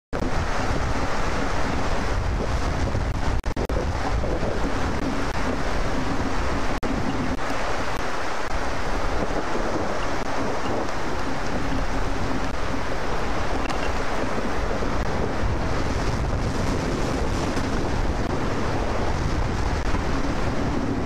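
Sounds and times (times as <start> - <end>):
wind rumbling on microphone: 0.1 - 21.0
steady rain hiss: 0.2 - 21.0.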